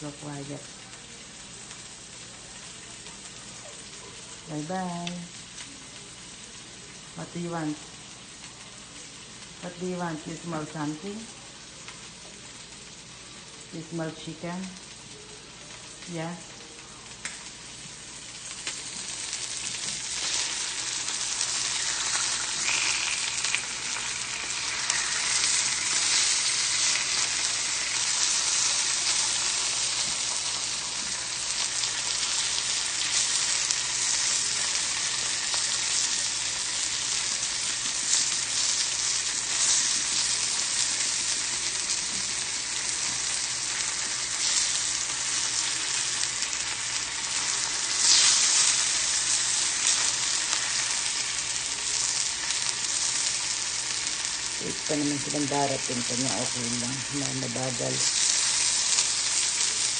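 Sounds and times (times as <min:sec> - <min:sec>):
chicken sizzling in a pan: 0:00.0 - 0:59.9.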